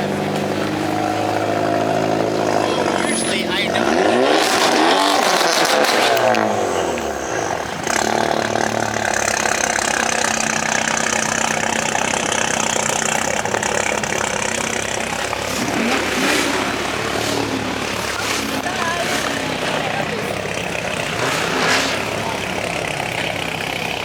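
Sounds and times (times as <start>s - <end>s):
car engines droning: 0.0s - 24.0s.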